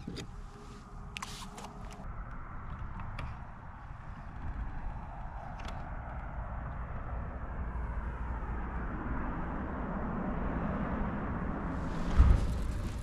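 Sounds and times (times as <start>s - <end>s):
traffic rumble on bridge: 0.0s - 13.0s.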